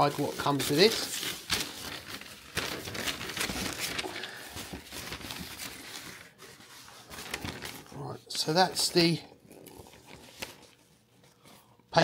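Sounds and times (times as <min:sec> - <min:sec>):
paper and packaging rustling: 0:00.0 - 0:12.0.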